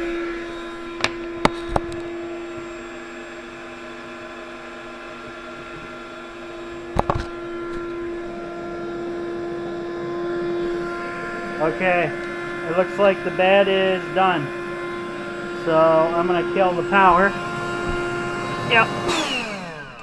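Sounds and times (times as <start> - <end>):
electric air pump humming: 0.0 - 20.0.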